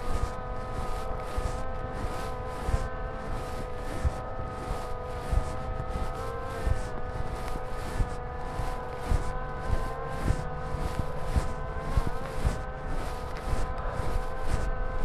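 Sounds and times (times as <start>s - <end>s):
steady hum: 0.0s - 15.0s
low rumble: 0.1s - 15.0s.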